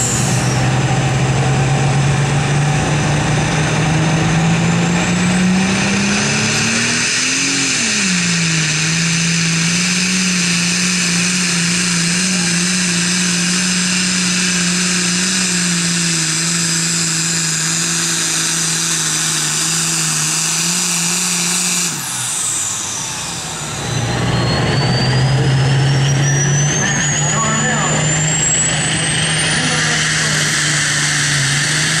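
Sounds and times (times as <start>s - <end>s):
engine with rising whine: 0.0s - 32.0s
tractor diesel engine with turbo whine: 0.0s - 32.0s.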